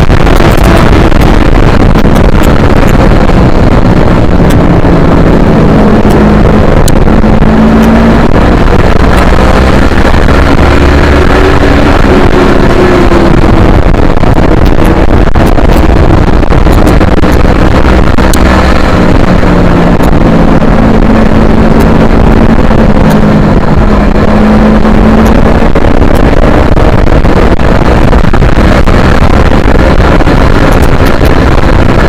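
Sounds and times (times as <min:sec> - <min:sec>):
motorcycle engine revving: 0:00.0 - 0:32.0
steady rushing noise: 0:00.0 - 0:32.0.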